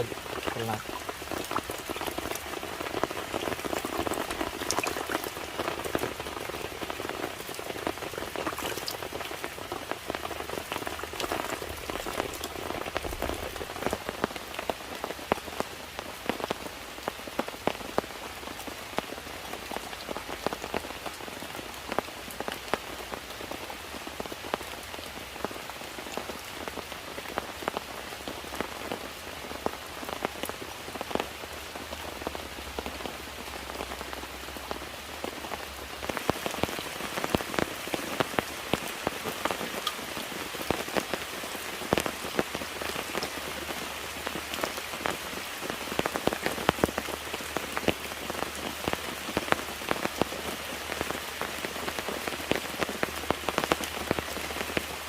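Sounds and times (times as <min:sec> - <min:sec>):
rain with dripping taps: 0:00.0 - 0:55.0.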